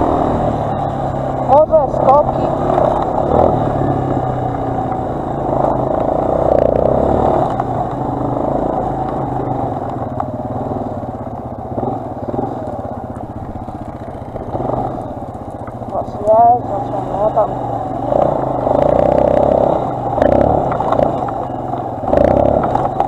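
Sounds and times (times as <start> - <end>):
quad bike engine running: 0.0 - 23.0.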